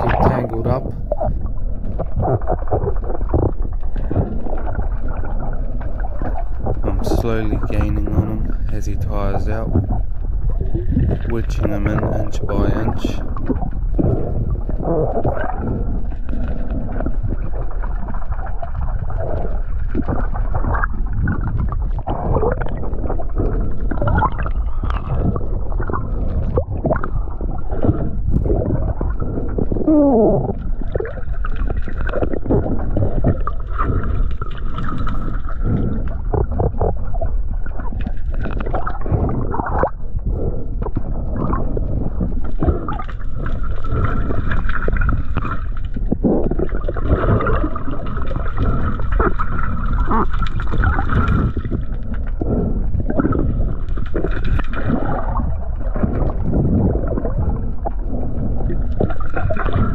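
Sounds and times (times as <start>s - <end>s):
low rumble: 0.0s - 59.9s
muffled underwater rushing water: 0.0s - 59.9s.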